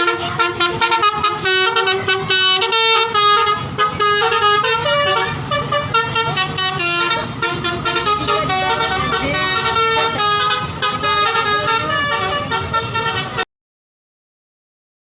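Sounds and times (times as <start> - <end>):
low engine rumble: 0.0 - 13.4
multi-tone bus horn melody: 0.0 - 13.5.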